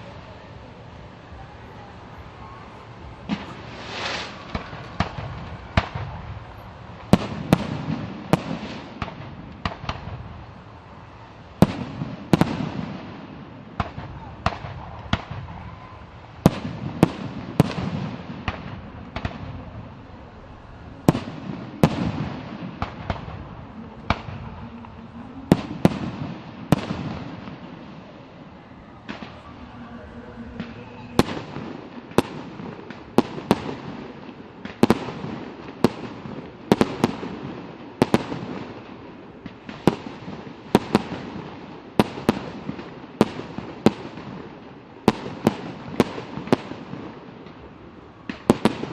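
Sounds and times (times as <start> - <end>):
fireworks bursting with echoing rumble: 0.0 - 48.9.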